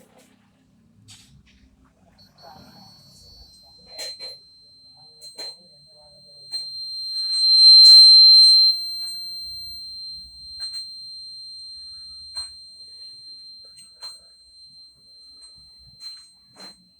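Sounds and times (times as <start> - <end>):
fire alarm buzzer tone: 2.2 - 16.9.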